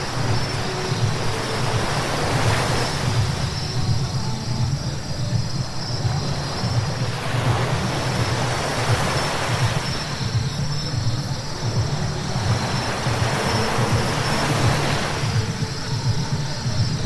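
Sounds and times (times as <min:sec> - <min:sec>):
road and engine hum: 0:00.0 - 0:17.0.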